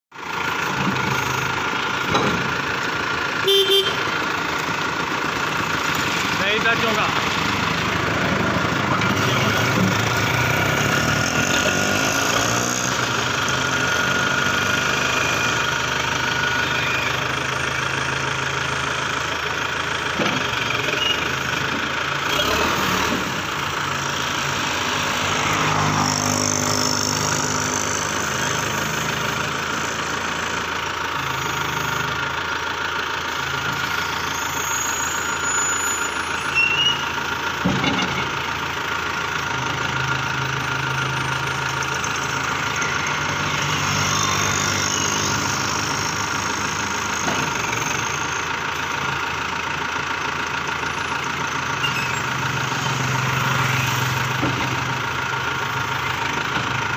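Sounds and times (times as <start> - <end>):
backhoe diesel engine running: 0.1 - 56.9.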